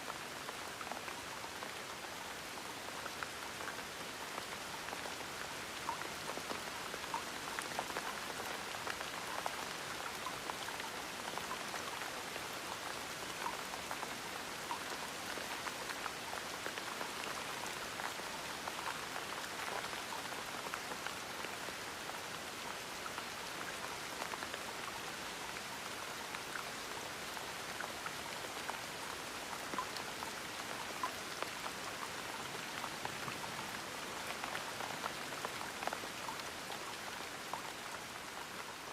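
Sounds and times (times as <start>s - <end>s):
gentle rain hiss: 0.0s - 38.9s
raindrops pattering on surface: 0.0s - 38.9s.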